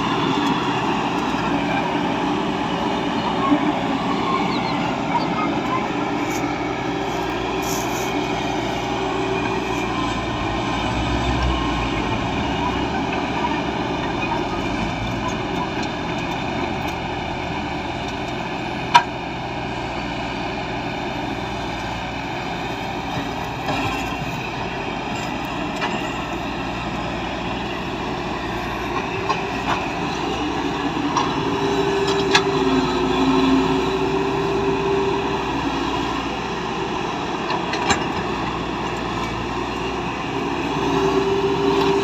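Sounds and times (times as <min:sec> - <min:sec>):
heavy machinery diesel engine: 0:00.0 - 0:42.0.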